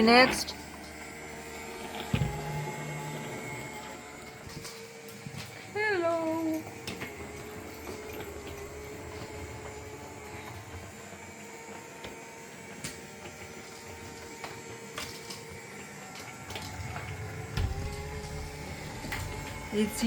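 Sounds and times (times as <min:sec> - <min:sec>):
robot cleaner motor whine: 0:00.0 - 0:20.0.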